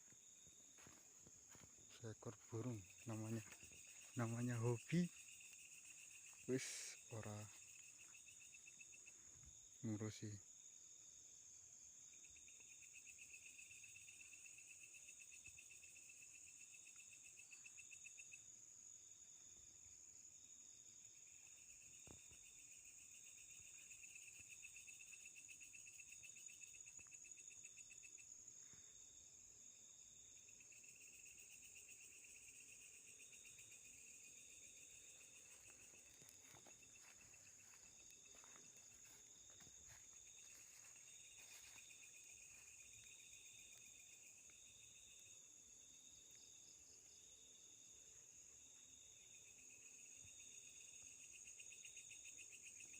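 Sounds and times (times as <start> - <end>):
low insect trill: 0.0 - 52.9
pulsing cricket chirp: 0.0 - 52.9.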